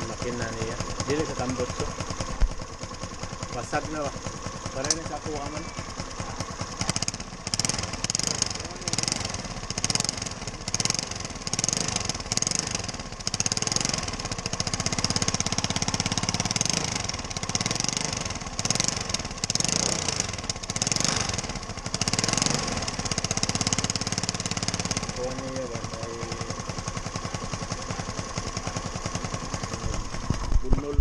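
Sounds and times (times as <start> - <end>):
scooter engine running: 0.0 - 31.0.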